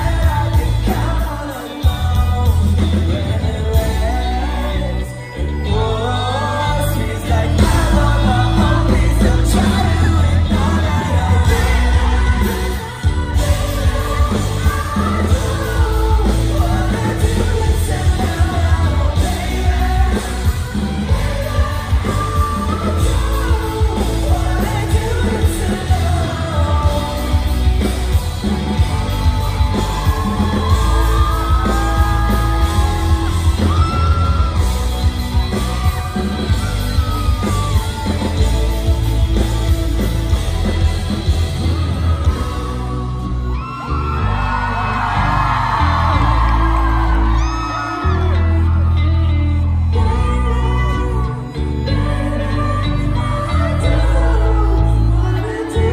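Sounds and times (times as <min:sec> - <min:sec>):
drums: 0:00.0 - 0:55.9
heavy bass: 0:00.0 - 0:55.9
man singing lead vocal: 0:00.0 - 0:55.9
rock band playing live: 0:00.0 - 0:55.9.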